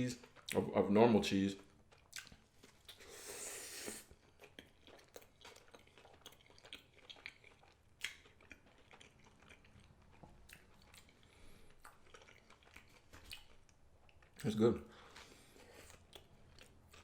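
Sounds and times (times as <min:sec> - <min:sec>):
close-up chewing: 0:00.2 - 0:00.7, 0:01.6 - 0:17.0.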